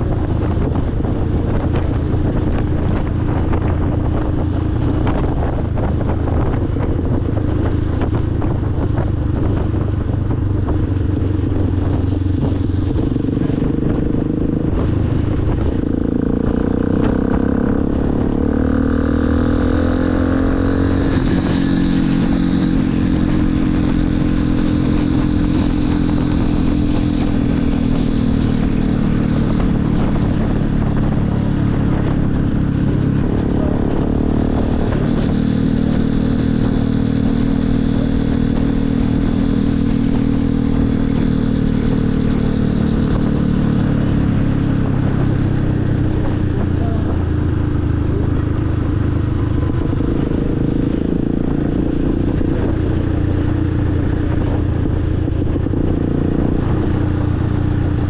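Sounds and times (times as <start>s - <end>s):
motorcycle engine running: 0.0s - 58.0s
road noise: 0.0s - 58.0s
wind: 0.0s - 58.0s.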